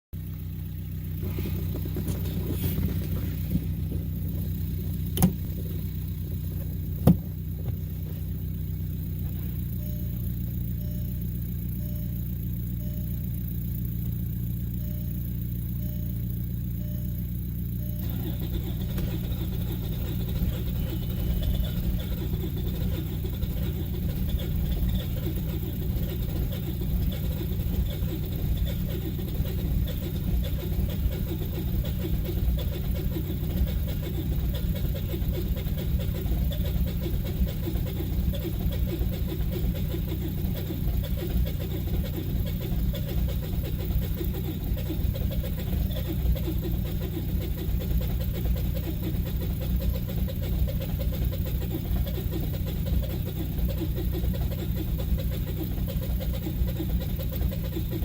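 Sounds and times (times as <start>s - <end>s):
engine idling: 0.1s - 58.0s.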